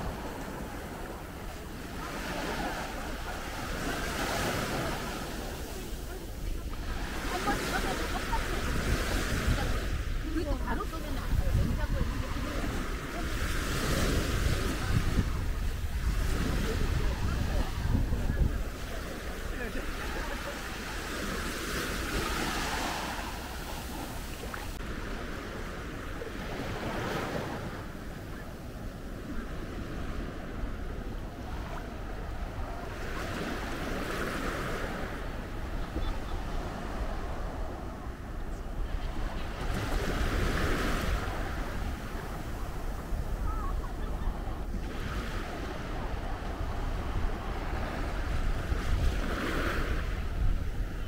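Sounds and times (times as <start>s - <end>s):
small waves breaking on a beach: 0.0s - 51.0s
wind rumble on microphone: 0.0s - 51.0s.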